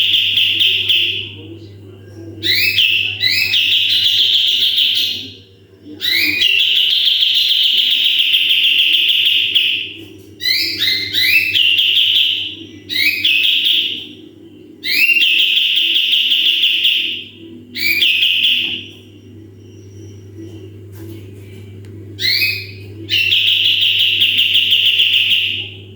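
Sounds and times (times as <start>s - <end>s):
bird buzzy calls: 0.0s - 1.5s, 2.4s - 20.8s, 21.4s - 25.9s
faint low hum: 0.0s - 25.9s.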